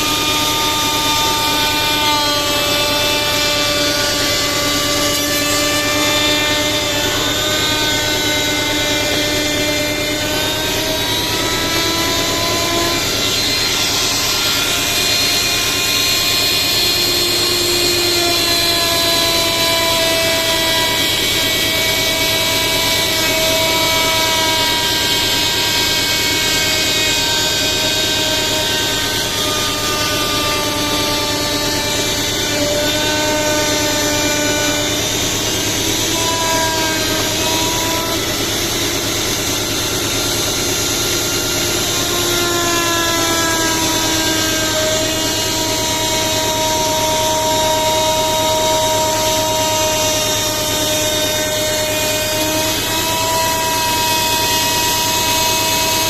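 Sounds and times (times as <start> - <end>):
woodworking power tool whining: 0.0 - 56.0.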